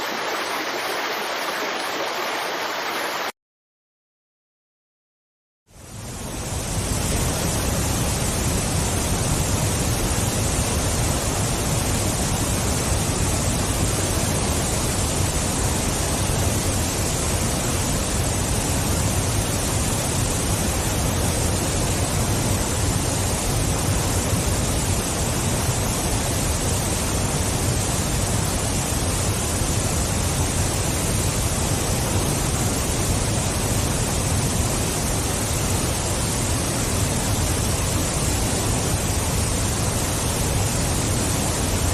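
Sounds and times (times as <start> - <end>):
waterfall rushing: 0.0 - 3.3, 6.4 - 41.9.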